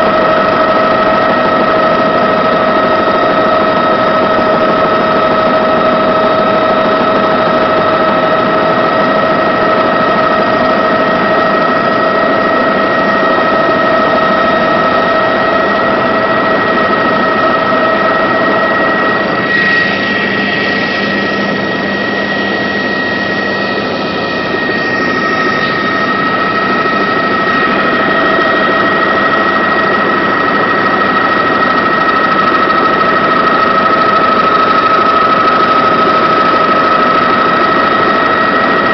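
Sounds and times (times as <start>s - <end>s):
helicopter in flight: 0.0s - 38.9s
whining tones: 0.1s - 38.9s.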